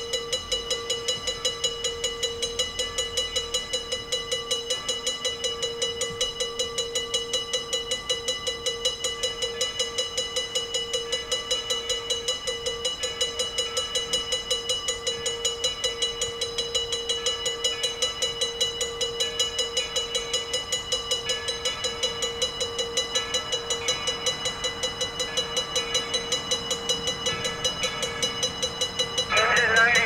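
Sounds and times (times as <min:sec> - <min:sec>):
railroad crossing bell ringing: 0:00.0 - 0:30.0.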